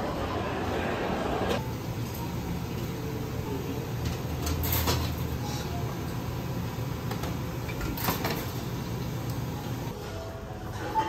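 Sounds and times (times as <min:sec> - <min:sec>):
kitchen equipment hum: 0:00.0 - 0:10.6.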